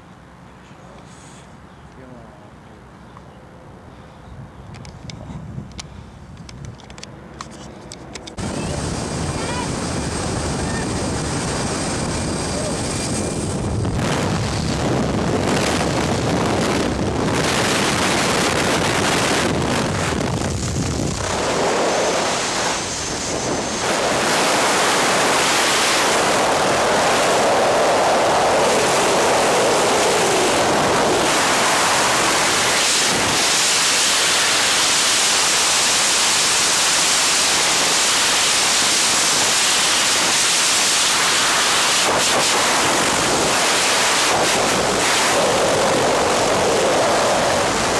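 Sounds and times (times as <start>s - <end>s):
wind rushing over microphone: 4.3s - 47.9s
aircraft engine: 4.6s - 47.9s.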